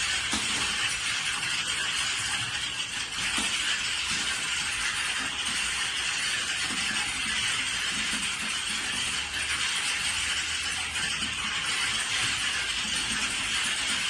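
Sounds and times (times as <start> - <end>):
many keyboards typing: 0.0 - 14.0.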